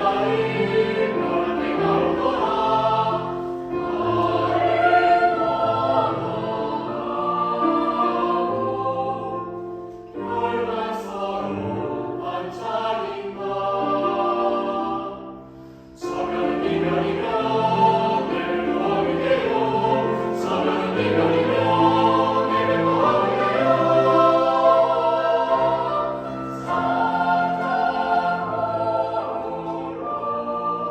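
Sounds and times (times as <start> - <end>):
choir singing held chords: 0.0 - 30.9.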